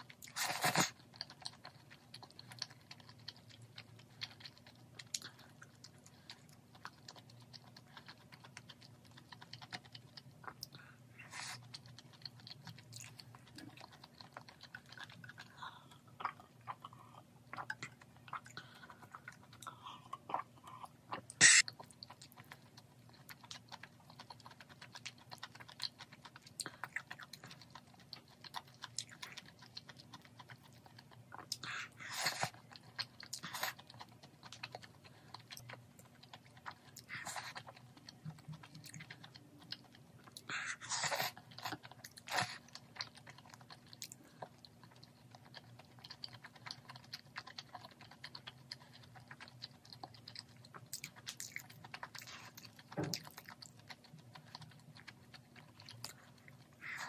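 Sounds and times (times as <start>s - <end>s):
close chewing and mouth clicks: 0.0s - 57.0s
faint low hum: 0.0s - 57.0s.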